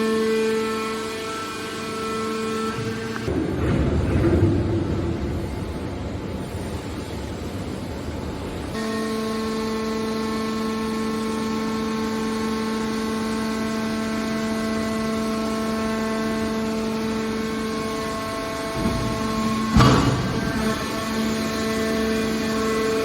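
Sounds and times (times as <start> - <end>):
hydraulic whine: 0.0 - 23.0
rumbling machine noise: 1.0 - 9.1, 11.0 - 23.0.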